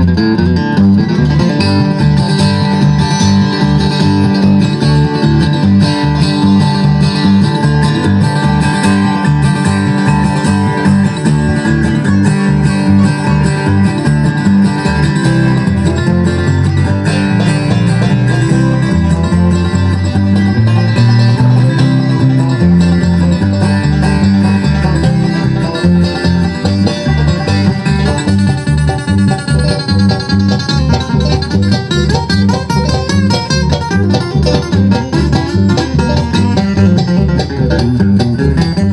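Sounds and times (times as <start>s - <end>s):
banjo picking: 0.0s - 38.9s
bass line: 0.0s - 38.9s
guitar picking: 0.0s - 38.9s.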